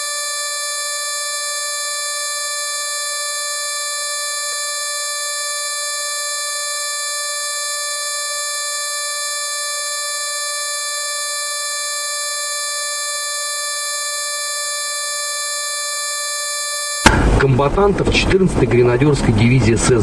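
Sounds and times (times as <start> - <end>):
high-pitched electronic drone: 0.0 - 17.4.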